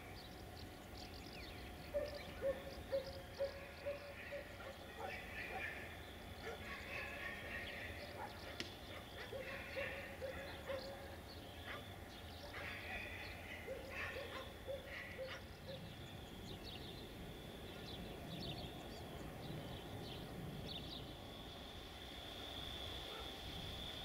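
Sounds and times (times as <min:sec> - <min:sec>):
steady high-pitched hum: 0:00.0 - 0:24.0.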